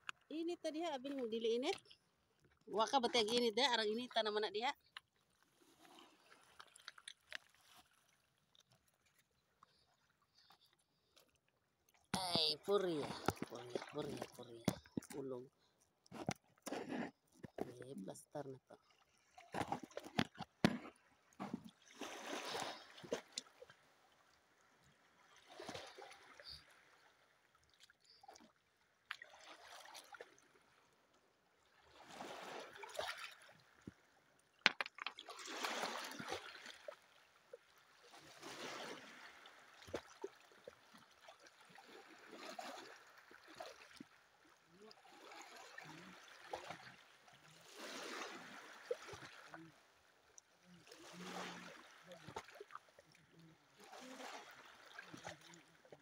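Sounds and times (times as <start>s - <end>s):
small waves lapping on rocks: 0.0s - 56.0s.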